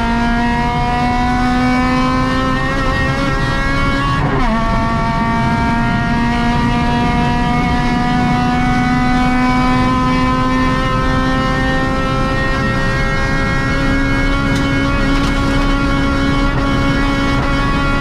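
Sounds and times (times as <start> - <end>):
car engine at full throttle: 0.0 - 18.0
road and wind noise: 0.0 - 18.0.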